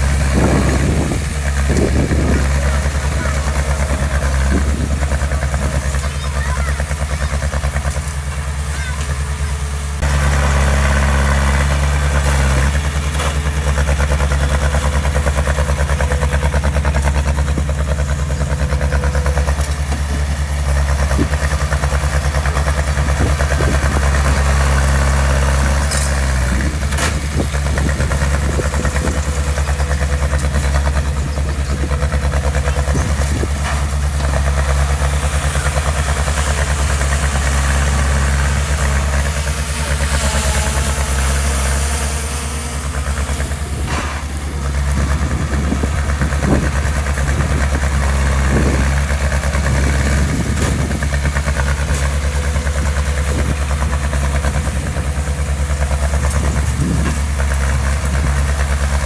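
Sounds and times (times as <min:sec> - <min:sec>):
diesel engine running at low revs: 0:00.0 - 0:59.0.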